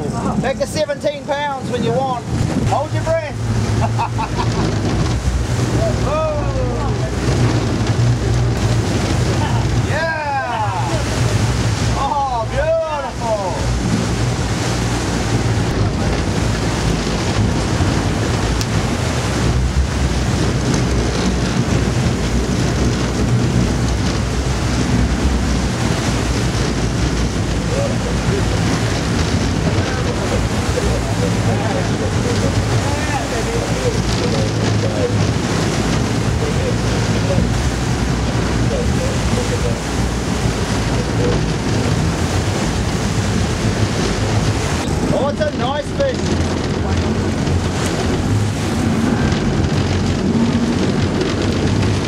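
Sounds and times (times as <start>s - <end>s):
boat engine humming: 0.0s - 52.0s
sea wash: 0.0s - 52.0s
wind rumbling on microphone: 0.0s - 52.0s.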